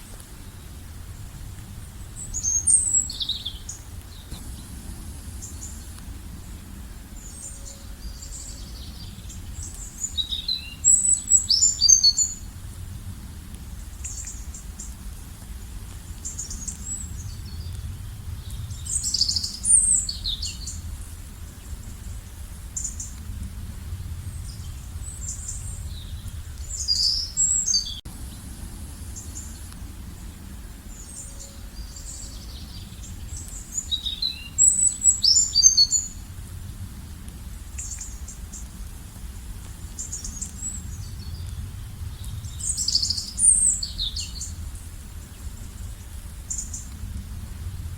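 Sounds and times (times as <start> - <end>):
steady low rumble: 0.0 - 11.6, 12.3 - 34.0, 35.9 - 47.9
songbirds twittering: 0.0 - 12.6, 16.1 - 36.3, 37.5 - 47.2.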